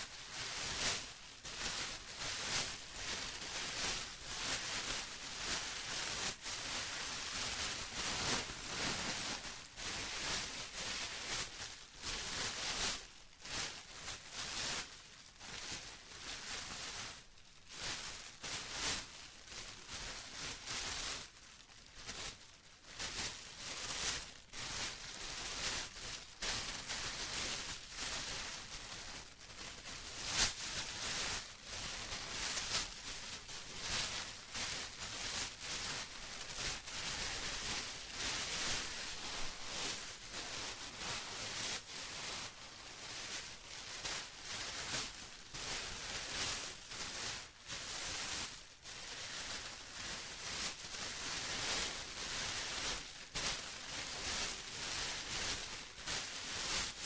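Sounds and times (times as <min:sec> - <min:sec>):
plastic rustling and crinkling: 0:00.0 - 0:57.0.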